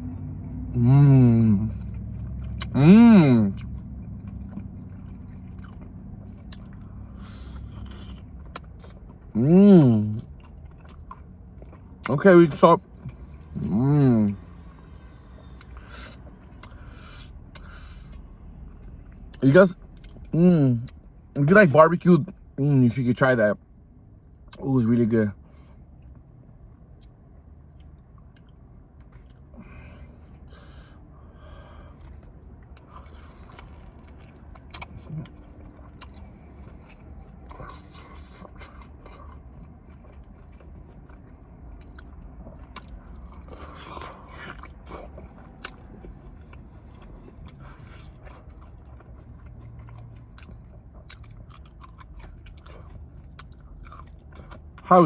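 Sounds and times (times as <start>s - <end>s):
person chewing food: 1.6s - 2.9s, 3.5s - 13.6s, 14.5s - 21.1s, 25.5s - 54.9s.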